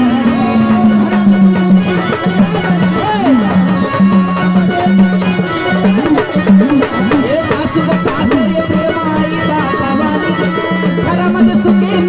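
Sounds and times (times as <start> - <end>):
hand drums: 0.0 - 12.0
held drone: 0.0 - 12.0
wavering melody line: 0.0 - 12.0.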